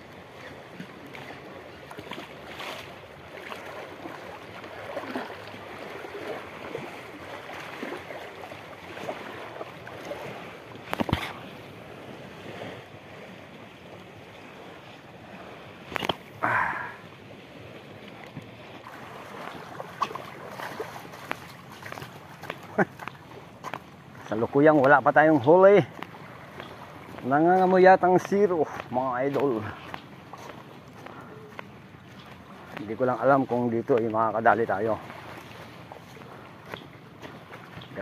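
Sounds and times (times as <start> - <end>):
waves lapping on rocky shore: 0.0 - 38.0.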